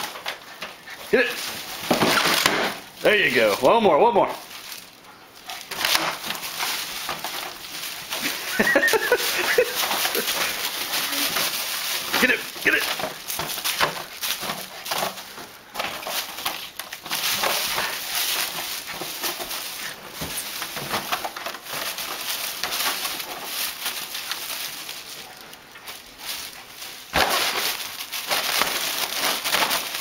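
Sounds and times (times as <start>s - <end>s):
dog scuffling with balloon: 0.0s - 3.7s, 4.4s - 30.0s.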